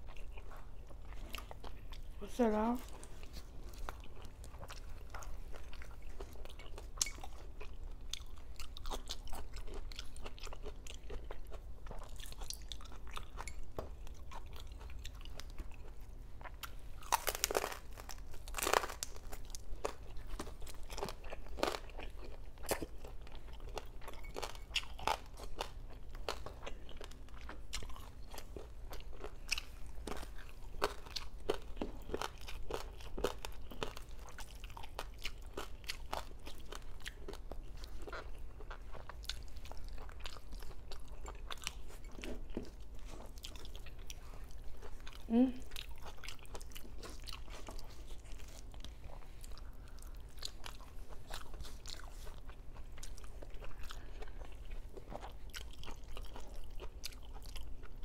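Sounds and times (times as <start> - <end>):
crunching and chewing: 0.0 - 58.0.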